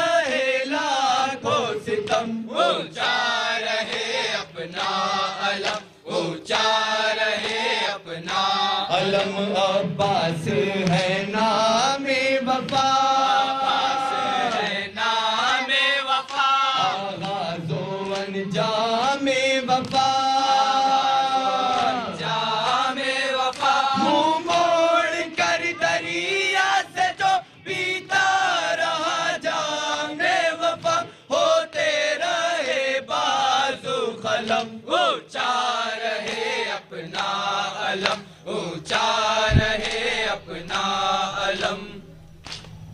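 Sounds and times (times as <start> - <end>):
group of men chanting a lament: 0.0 - 42.1.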